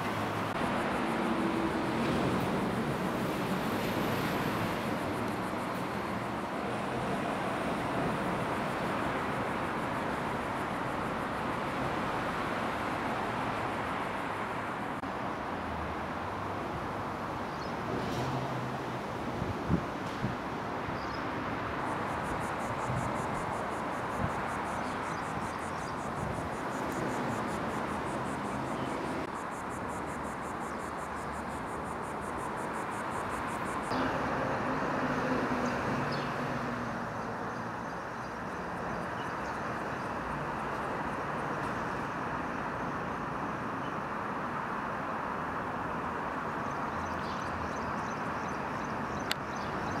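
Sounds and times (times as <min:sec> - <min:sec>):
outdoor background noise: 0:00.0 - 0:50.0.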